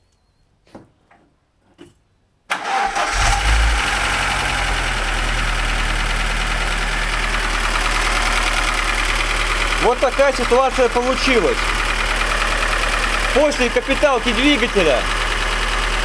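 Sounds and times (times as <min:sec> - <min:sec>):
car engine starting and idling: 0:02.5 - 0:16.0.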